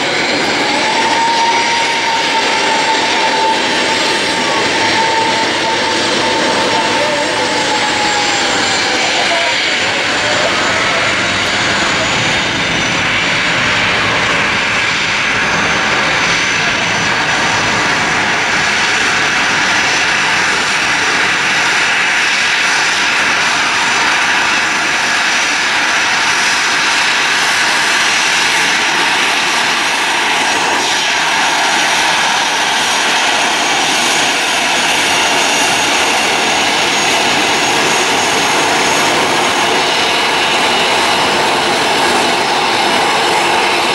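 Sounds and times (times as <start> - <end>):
jet engine roar: 0.0 - 43.9.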